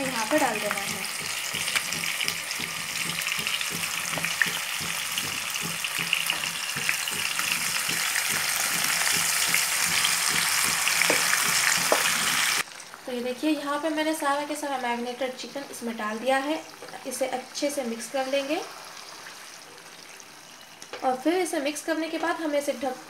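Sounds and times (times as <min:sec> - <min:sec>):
chicken sizzling in hot oil: 0:00.0 - 0:15.0, 0:16.0 - 0:20.8.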